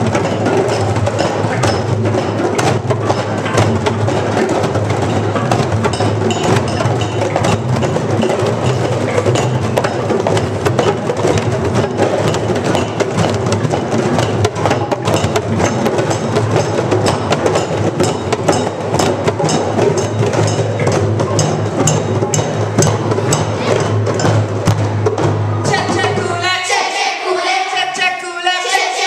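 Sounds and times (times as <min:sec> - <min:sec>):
group of hand drums playing: 0:00.0 - 0:28.0.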